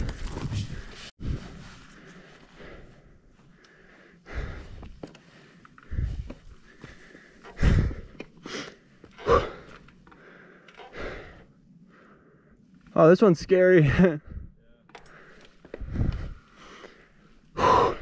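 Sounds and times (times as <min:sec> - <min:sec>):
person breathing hard: 0:00.0 - 0:12.7, 0:14.3 - 0:18.0.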